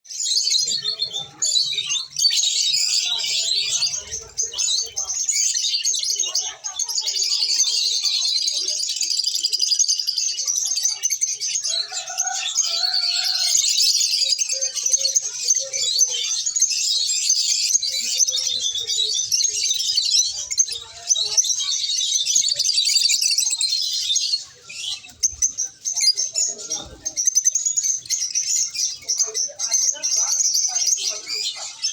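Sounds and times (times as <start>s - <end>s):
birds chirping high-pitched chatter: 0.0s - 31.9s.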